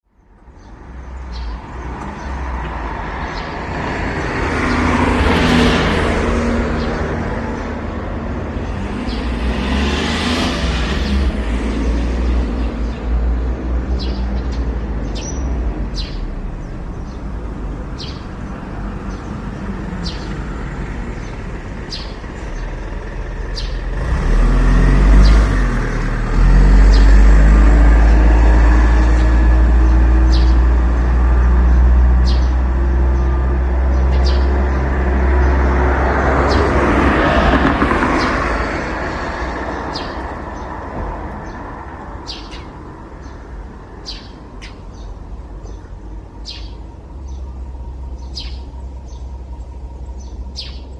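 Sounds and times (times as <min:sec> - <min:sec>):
vehicles passing by: 0:00.1 - 0:50.9
heavy vehicle engine accelerating: 0:01.4 - 0:43.0.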